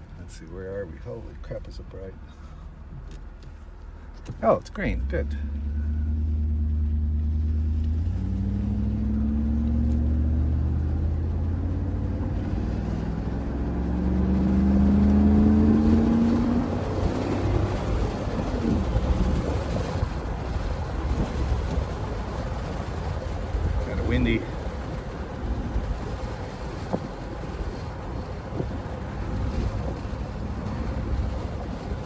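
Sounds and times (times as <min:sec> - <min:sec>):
car engine accelerating: 0:00.0 - 0:32.0
road and tyre noise: 0:00.0 - 0:32.0.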